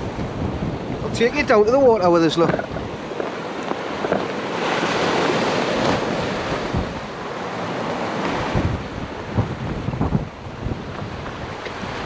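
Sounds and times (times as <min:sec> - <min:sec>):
sea waves washing ashore: 0:00.0 - 0:12.0
wind buffeting microphone: 0:00.0 - 0:12.0.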